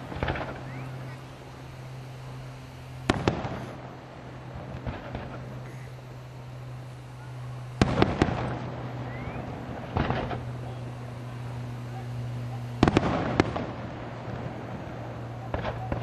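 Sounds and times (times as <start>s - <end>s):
fireworks bangs: 0.0s - 16.0s
fireworks crackle: 0.0s - 16.0s
steady low hum: 0.0s - 16.0s.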